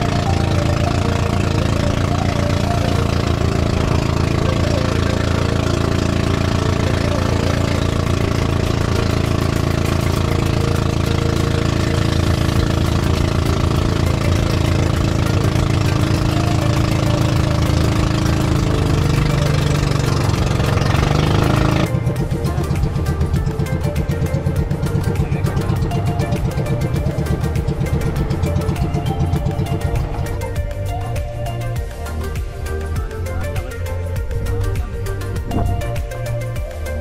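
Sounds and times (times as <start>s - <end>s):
boat engine chugging: 0.0s - 37.0s.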